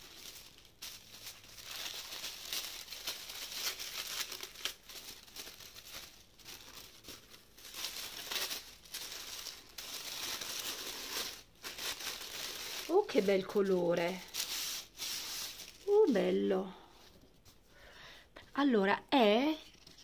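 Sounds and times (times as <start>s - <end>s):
tissue paper rustling: 0.0s - 17.6s.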